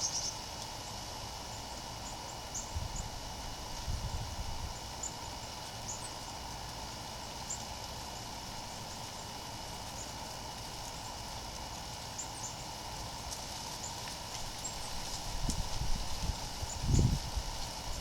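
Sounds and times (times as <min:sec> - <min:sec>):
high insect-like drone: 0:00.0 - 0:18.0
small birds chirping: 0:00.0 - 0:18.0
steady hiss: 0:00.0 - 0:18.0.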